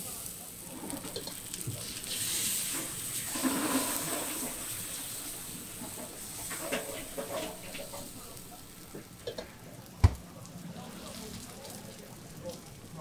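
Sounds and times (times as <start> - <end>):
batter sizzling in hot pan: 0.0 - 13.0.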